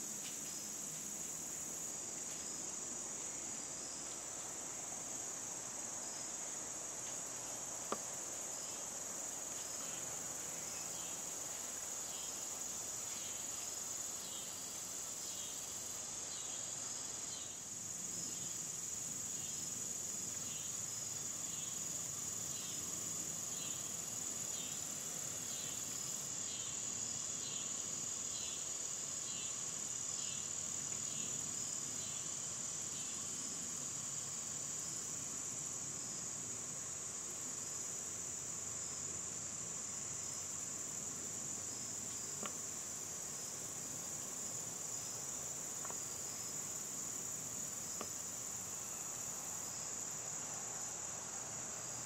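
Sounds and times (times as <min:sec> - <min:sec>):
insects chorus: 0:00.0 - 0:52.0.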